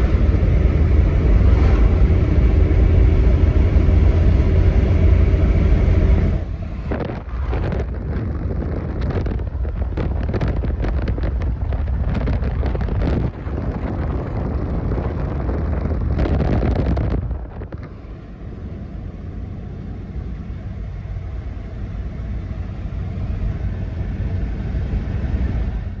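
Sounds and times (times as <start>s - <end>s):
engine and tyres rumbling: 0.0s - 26.0s
wind and road noise: 0.0s - 26.0s.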